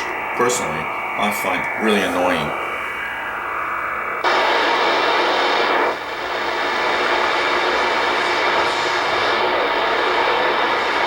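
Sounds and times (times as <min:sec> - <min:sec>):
digital radio hash noise: 0:00.0 - 0:11.0.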